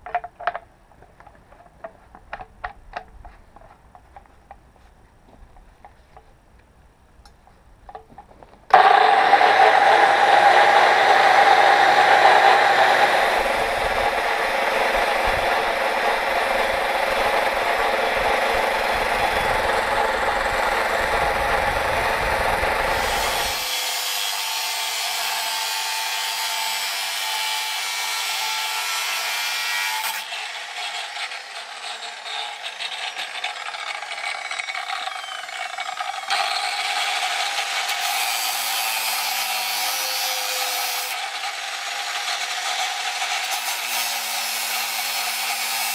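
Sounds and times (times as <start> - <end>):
angle grinder whining: 8.7 - 45.9
grinder disc cutting metal: 8.7 - 45.9.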